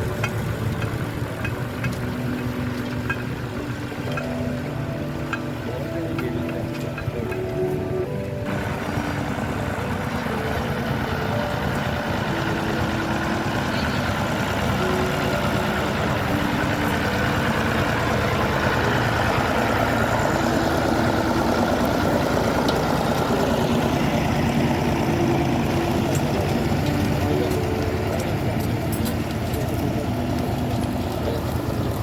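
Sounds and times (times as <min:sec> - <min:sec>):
tractor engine rumbling: 0:00.0 - 0:32.0.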